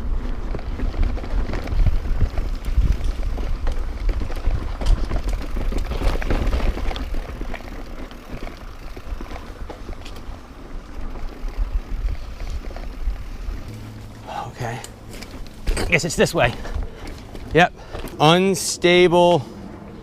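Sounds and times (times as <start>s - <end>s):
wind buffeting microphone: 0.0s - 18.2s
bike tyres rolling on dirt: 0.0s - 20.0s
bike rattling clicks: 0.1s - 18.4s.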